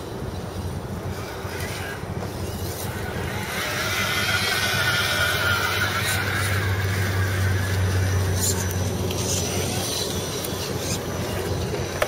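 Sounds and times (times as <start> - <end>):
electric motors whining: 0.0 - 12.0
steady low hum: 0.0 - 12.0.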